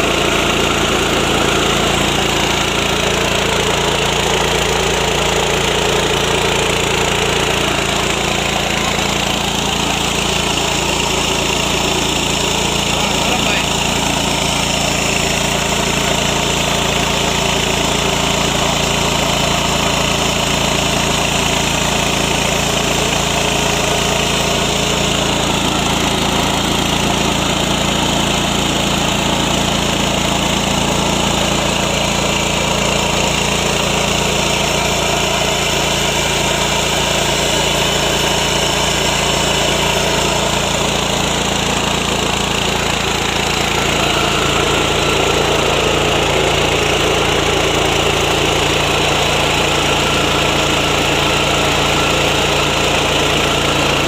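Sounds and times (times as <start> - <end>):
rice mill engine running: 0.0 - 54.0.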